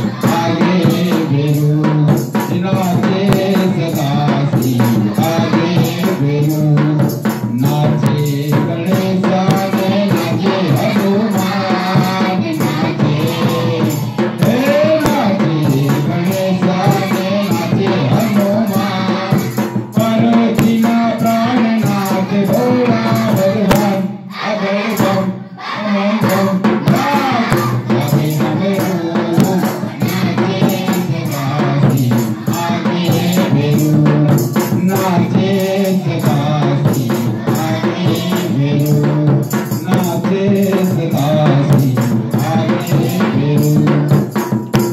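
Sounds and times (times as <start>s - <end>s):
tambourine jingling: 0.0s - 25.4s, 26.2s - 44.9s
man singing into microphone: 0.0s - 44.9s.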